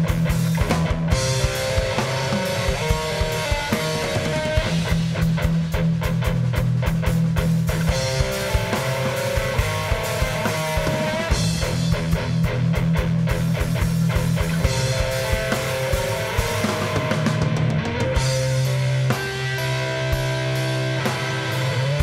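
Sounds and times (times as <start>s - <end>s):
drum and cymbal hits: 0.0s - 22.0s
electric guitar chords: 0.0s - 22.0s.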